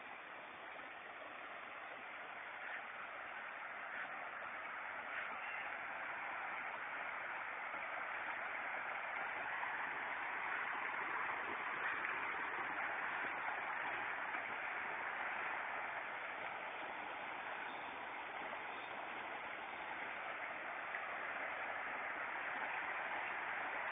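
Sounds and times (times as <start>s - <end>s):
floodwater rushing: 0.0s - 23.9s.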